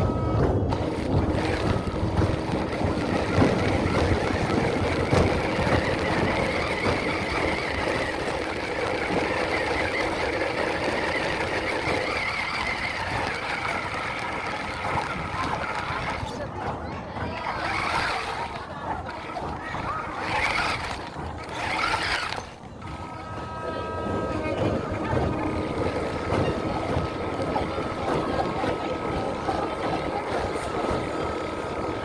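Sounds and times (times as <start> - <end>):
toy truck motor whining: 0.0 - 16.4, 17.3 - 32.0
steady rushing noise: 0.0 - 32.0.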